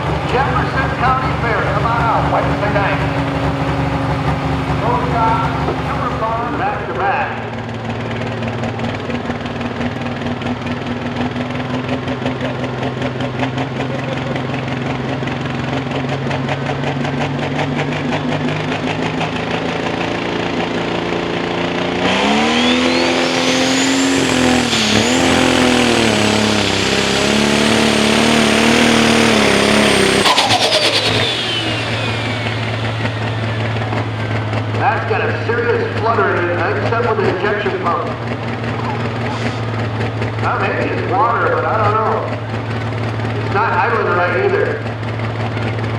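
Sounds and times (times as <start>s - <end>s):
diesel engine running: 0.0s - 45.9s
high turbo whine: 0.0s - 45.9s.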